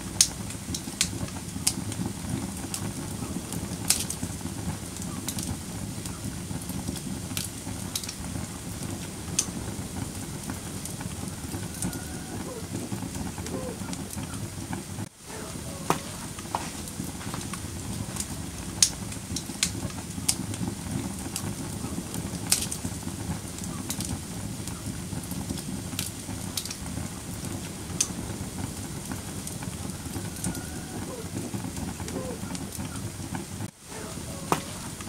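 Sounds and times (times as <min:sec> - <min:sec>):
wood fire burning: 0:00.0 - 0:35.0.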